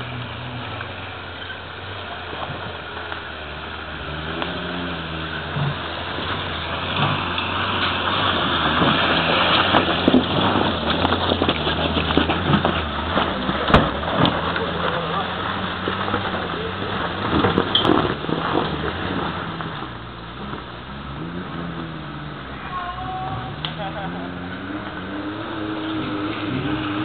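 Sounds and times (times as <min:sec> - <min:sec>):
stones cracking under tyres: 0:00.0 - 0:22.7
small off-road car engine under load: 0:00.0 - 0:27.0.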